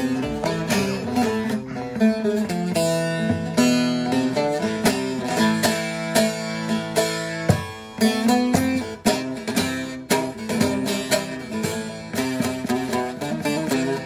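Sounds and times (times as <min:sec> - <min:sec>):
plucked long-necked lute melody: 0:00.0 - 0:14.0.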